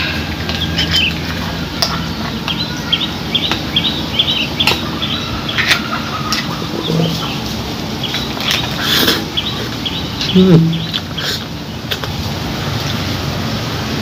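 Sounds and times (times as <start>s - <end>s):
small birds chirping: 0.0s - 12.3s
low steady hum: 0.0s - 14.0s.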